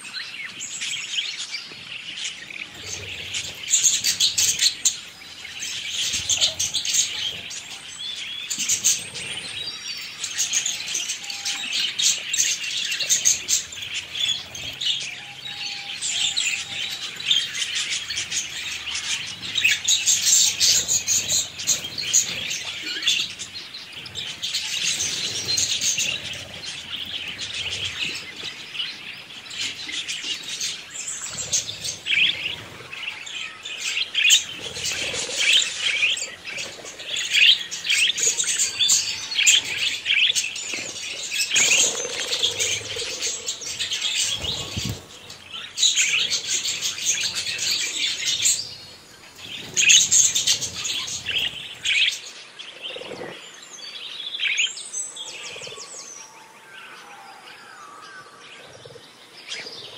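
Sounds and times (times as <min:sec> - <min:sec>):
budgerigars chirping and warbling: 0:00.0 - 0:57.8, 0:58.5 - 0:59.9.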